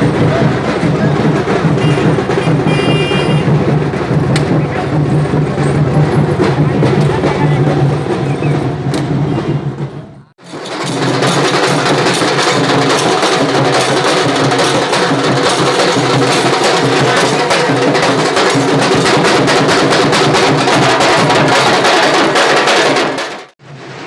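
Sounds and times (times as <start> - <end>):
fast dense drumming: 0.0 - 24.0.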